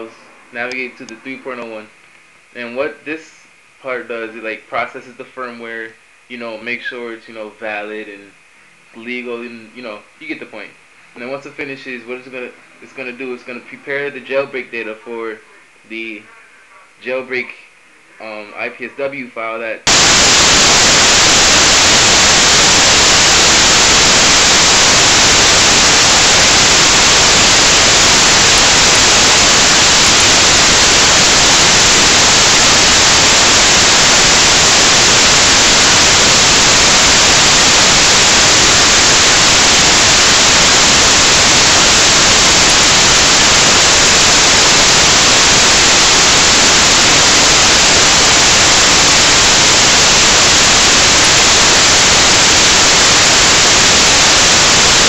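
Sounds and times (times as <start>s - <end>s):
static hiss: 0.0s - 55.0s.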